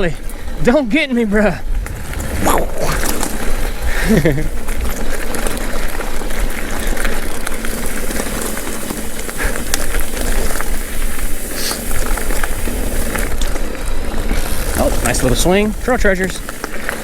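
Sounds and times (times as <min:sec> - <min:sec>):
tyre and wind noise: 0:00.0 - 0:17.0
bike clicks and rattles: 0:03.0 - 0:17.0.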